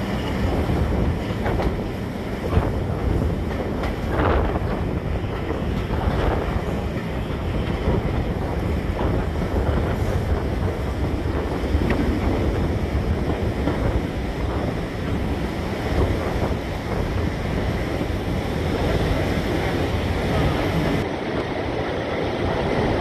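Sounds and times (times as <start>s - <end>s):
train carriage rumbling on track: 0.0s - 23.0s
wind buffeting microphone: 0.0s - 23.0s.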